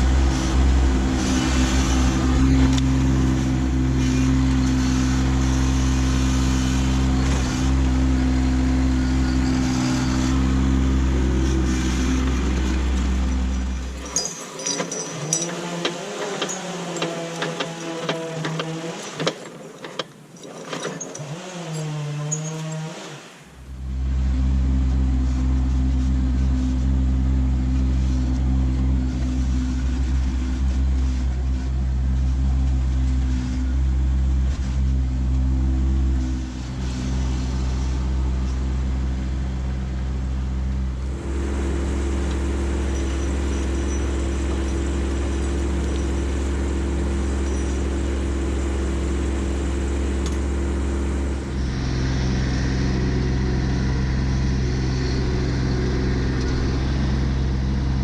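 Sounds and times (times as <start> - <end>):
tractor diesel engine running: 0.0 - 18.9, 23.5 - 58.0.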